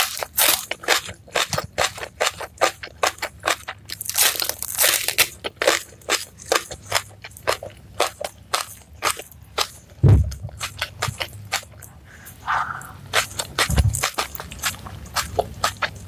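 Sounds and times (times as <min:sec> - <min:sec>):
crunching raw green onion: 0:00.0 - 0:16.0.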